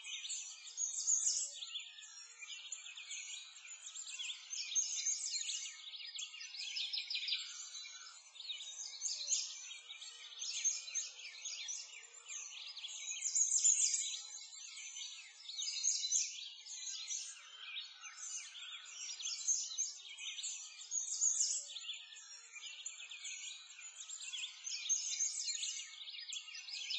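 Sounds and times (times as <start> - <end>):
songbirds chirping and singing: 0.0 - 26.9.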